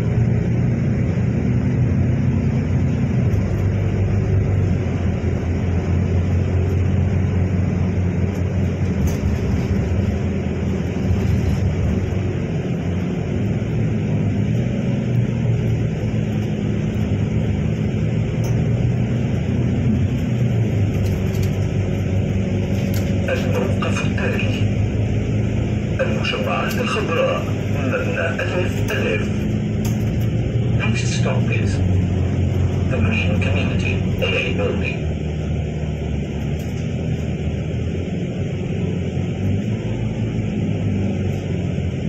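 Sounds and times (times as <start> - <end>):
bus engine drone: 0.0 - 42.0
road noise: 0.0 - 42.0.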